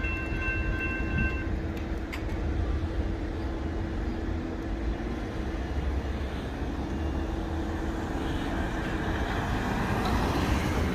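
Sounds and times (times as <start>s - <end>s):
steady low rumble: 0.0s - 9.6s
cars crossing railroad tracks: 0.0s - 10.9s.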